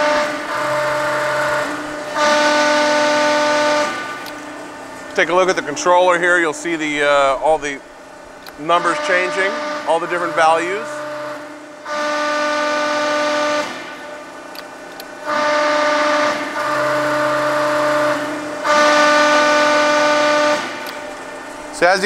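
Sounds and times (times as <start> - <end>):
hydraulic press whining: 0.0 - 22.0.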